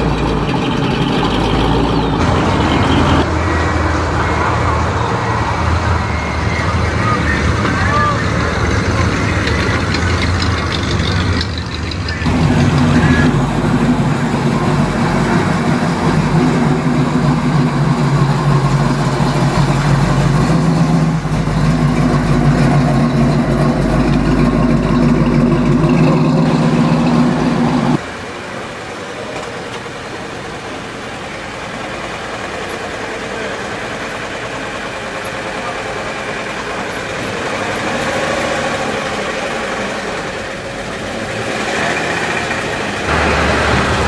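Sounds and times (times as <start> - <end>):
pickup truck engines driving past: 0.0 - 44.0.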